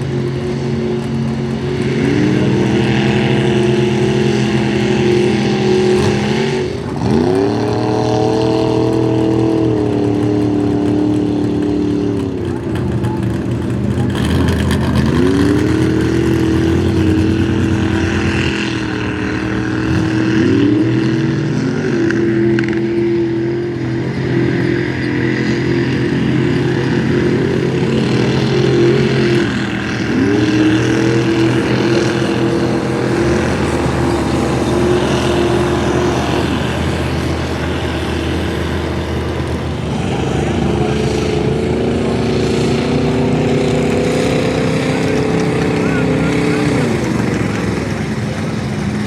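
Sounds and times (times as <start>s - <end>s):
truck engine revving hard: 0.0s - 49.0s.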